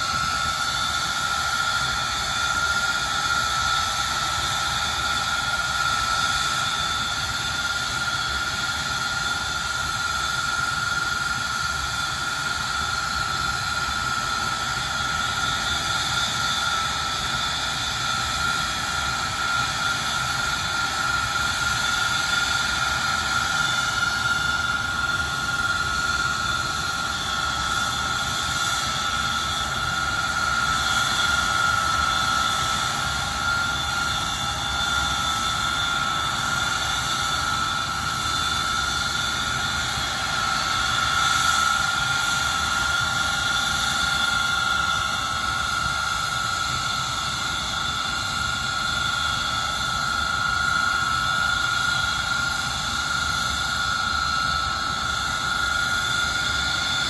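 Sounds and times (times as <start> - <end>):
jet engine whine: 0.0 - 57.0
jet exhaust rush: 0.0 - 57.0.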